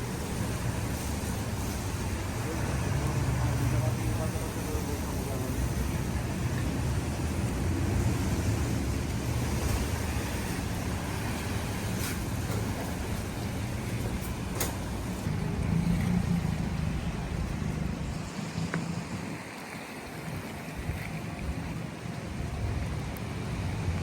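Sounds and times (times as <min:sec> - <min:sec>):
traffic rumbling: 0:00.0 - 0:24.0.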